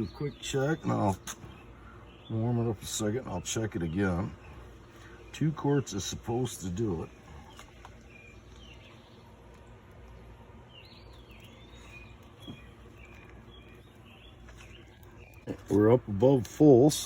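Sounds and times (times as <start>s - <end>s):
low steady background hum: 0.0s - 17.0s.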